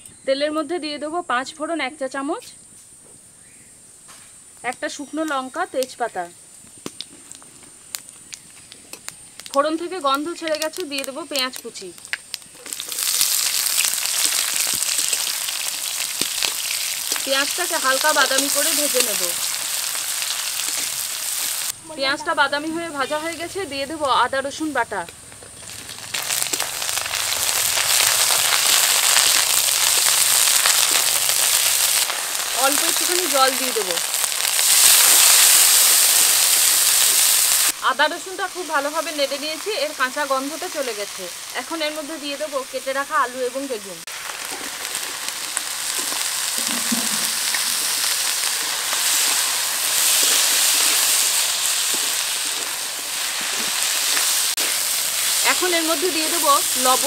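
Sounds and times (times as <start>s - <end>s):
paste sizzling in hot oil: 4.6s - 57.0s.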